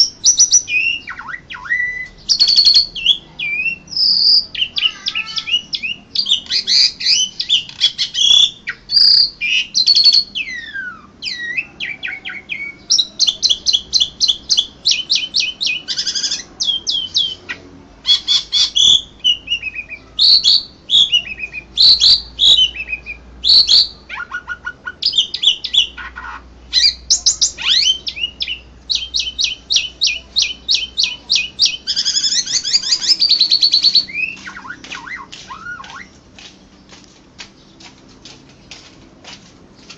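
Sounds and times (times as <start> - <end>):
starling singing: 0.0 - 37.9.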